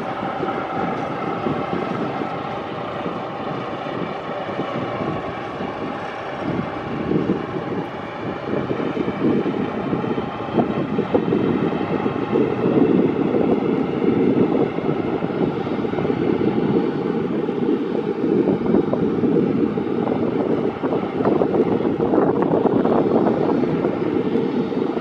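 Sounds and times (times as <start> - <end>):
faint engine whining tones: 0.0 - 25.0
jet engines rumbling: 0.0 - 25.0
wind buffeting microphone: 0.0 - 25.0.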